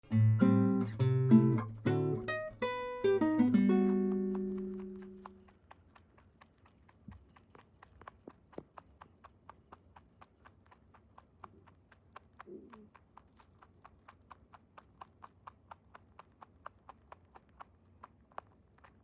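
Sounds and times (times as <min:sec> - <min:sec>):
rabbit chewing: 0:00.1 - 0:19.0.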